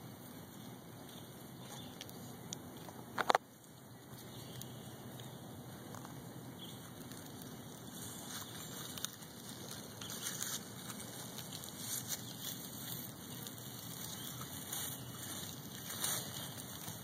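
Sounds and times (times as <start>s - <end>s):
dry leaves and twigs crackling: 0.0s - 17.0s.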